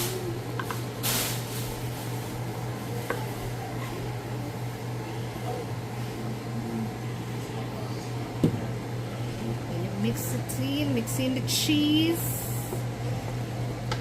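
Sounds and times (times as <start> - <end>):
appliance fan motor humming: 0.0 - 14.0.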